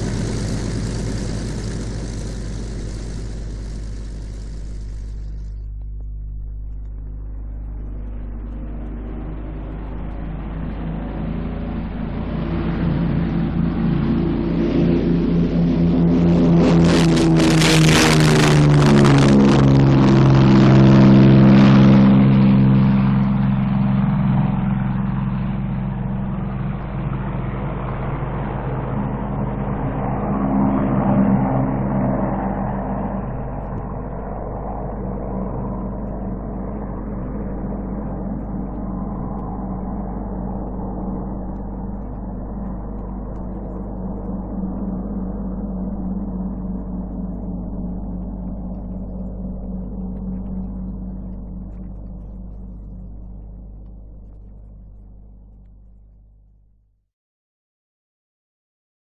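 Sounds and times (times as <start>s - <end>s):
aircraft engines passing: 0.0s - 56.4s
steady low hum: 0.0s - 57.0s.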